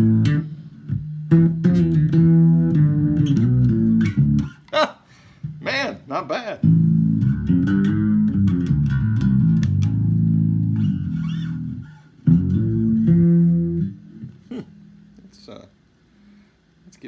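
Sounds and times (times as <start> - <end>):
fretless bass guitar notes: 0.0 - 15.5.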